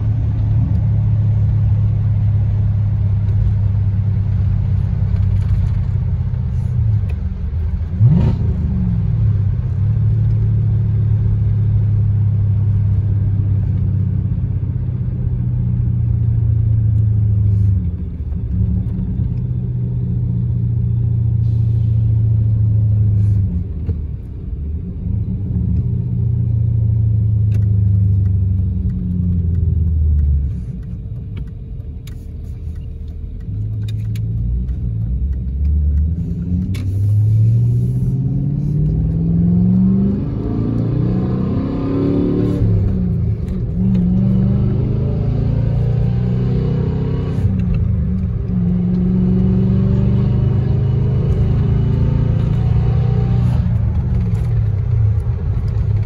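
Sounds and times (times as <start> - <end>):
car exhaust drone: 0.0 - 56.0.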